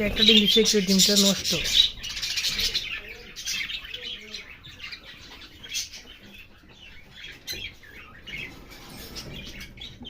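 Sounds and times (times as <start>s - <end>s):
parrots chirping and twittering: 0.0s - 10.0s.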